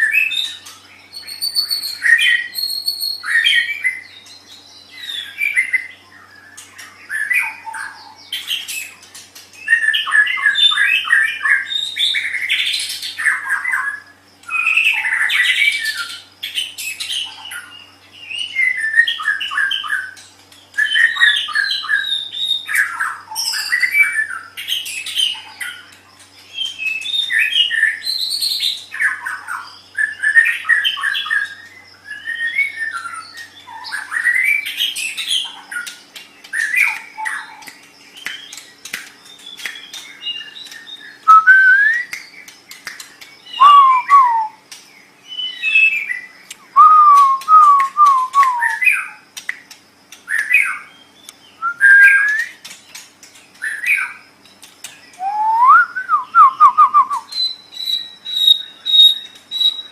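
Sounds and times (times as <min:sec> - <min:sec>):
bird singing whistled song: 0:00.0 - 0:49.7, 0:50.3 - 0:53.0, 0:53.6 - 0:54.2, 0:54.9 - 0:59.9.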